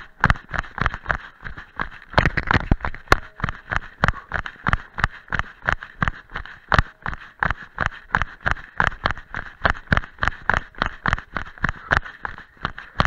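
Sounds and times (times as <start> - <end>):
running footsteps on gravel: 0.0 - 13.0.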